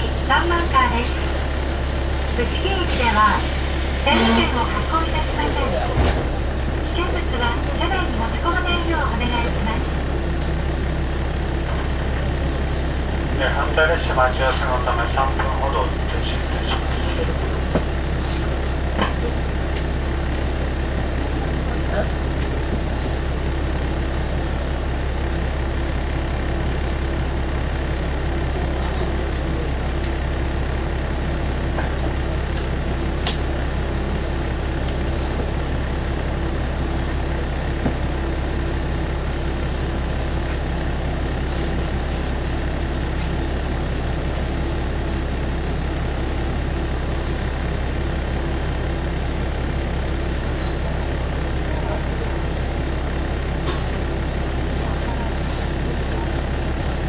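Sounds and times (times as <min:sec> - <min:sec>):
diesel railcar engine idling: 0:00.0 - 0:57.0.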